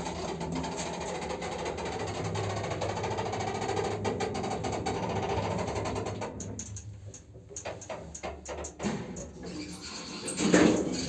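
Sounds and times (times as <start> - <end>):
elevator mechanical hum and rattling: 0.0 - 11.0.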